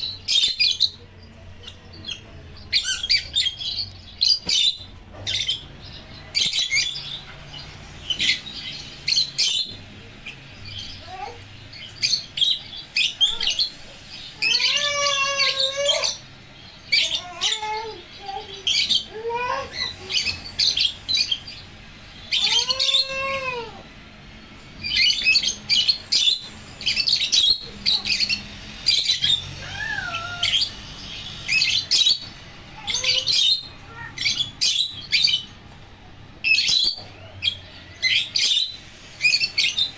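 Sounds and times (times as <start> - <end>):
birds shrill chirps: 0.0 - 39.9.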